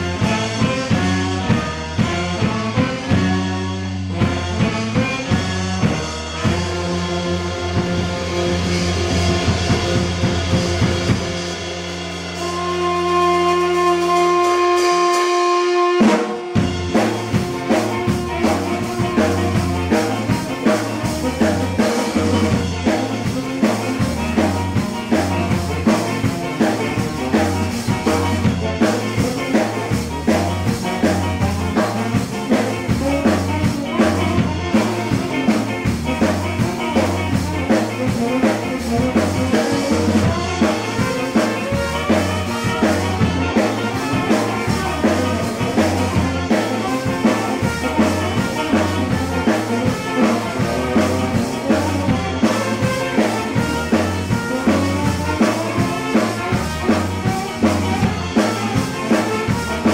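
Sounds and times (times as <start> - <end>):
drum kit: 0.0 - 59.9
electric bass guitar: 0.0 - 59.9
live band playing ska: 0.0 - 59.9.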